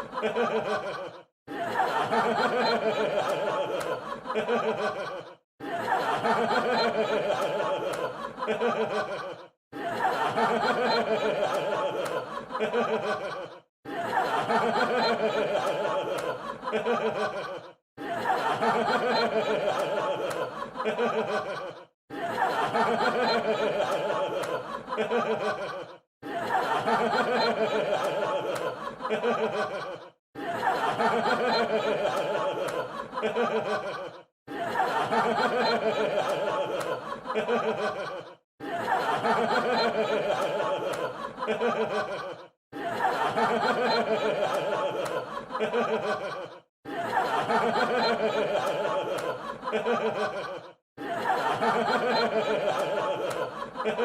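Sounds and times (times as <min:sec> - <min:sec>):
crowd laughing: 0:00.0 - 0:54.0.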